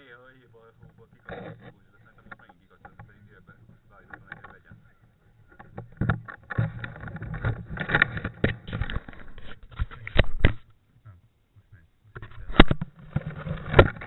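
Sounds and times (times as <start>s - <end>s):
rustling and scraping: 0.3s - 10.8s, 12.1s - 14.0s.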